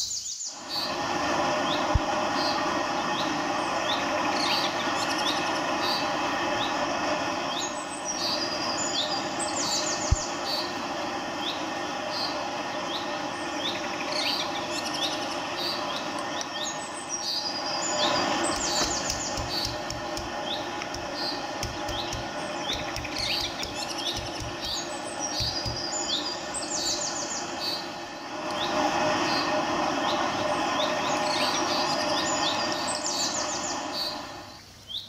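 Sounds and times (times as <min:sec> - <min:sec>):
steady background hum: 0:00.0 - 0:35.0
small birds chirping: 0:01.6 - 0:06.8, 0:07.5 - 0:10.8, 0:11.4 - 0:35.0.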